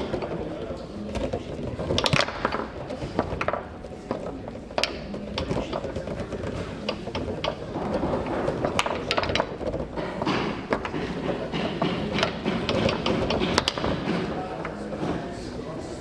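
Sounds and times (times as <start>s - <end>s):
foosball ball knocking and clacking: 0.0s - 15.4s
background noise: 0.0s - 16.0s
rods hitting bumpers: 1.1s - 15.3s.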